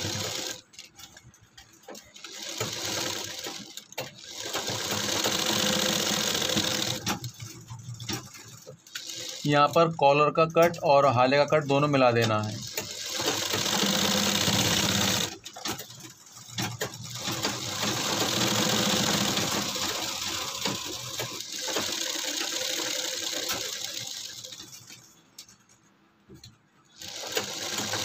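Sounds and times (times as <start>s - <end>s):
sewing machine running: 0.0s - 1.1s, 1.9s - 9.8s, 12.0s - 25.0s, 27.0s - 28.0s.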